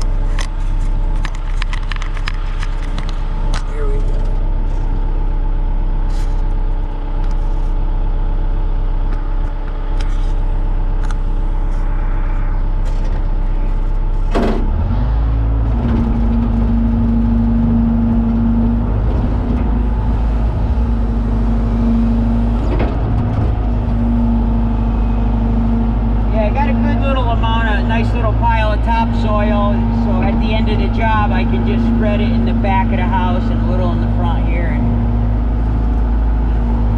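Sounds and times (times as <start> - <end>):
excavator diesel engine: 0.0 - 36.9
hydraulics whine: 0.0 - 36.9.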